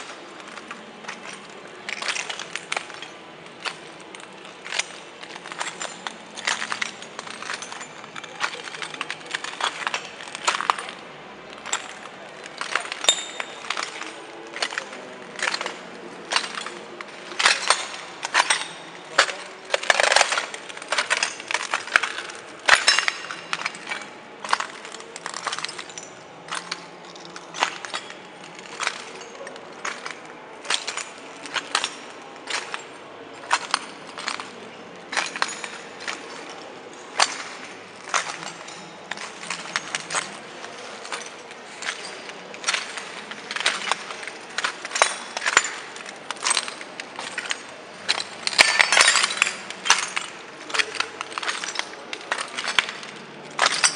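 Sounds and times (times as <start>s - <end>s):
footsteps on broken glass: 0.0s - 53.9s.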